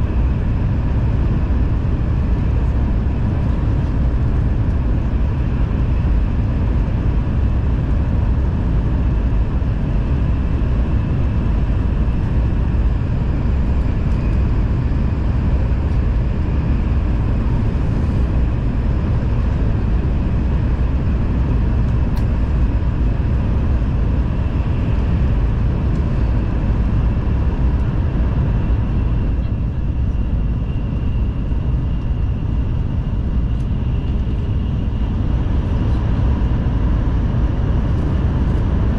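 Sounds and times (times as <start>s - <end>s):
faint steady whine: 0.0s - 38.9s.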